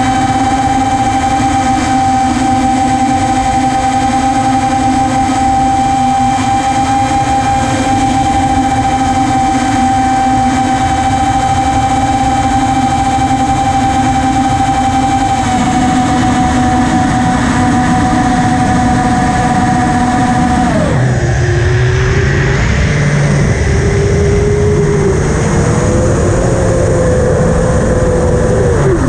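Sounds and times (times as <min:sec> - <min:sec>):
model aircraft motor whine: 0:00.0 - 0:29.0
wind rushing over microphone: 0:00.0 - 0:29.0.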